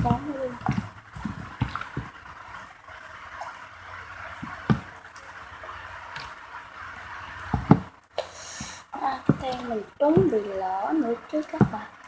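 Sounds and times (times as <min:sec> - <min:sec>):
water running: 0:00.0 - 0:12.0.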